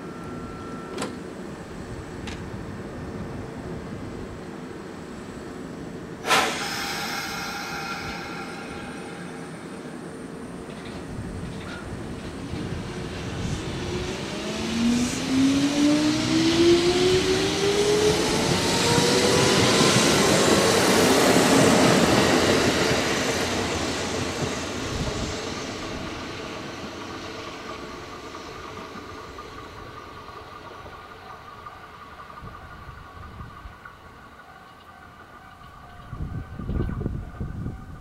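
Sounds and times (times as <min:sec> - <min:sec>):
train wheels on rails: 0:04.4 - 0:38.0.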